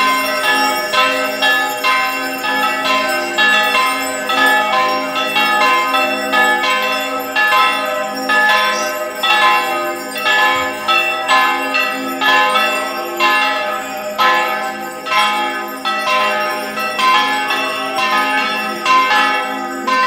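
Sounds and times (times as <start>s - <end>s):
church bells pealing: 0.0s - 20.0s.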